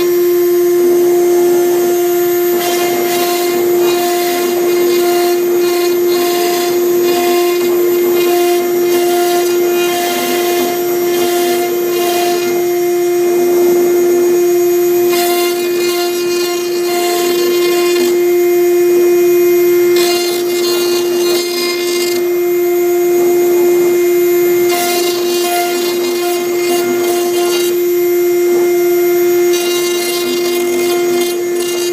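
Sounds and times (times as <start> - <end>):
cnc router spindle whine: 0.0 - 31.9
router bit carving wood: 0.0 - 31.9.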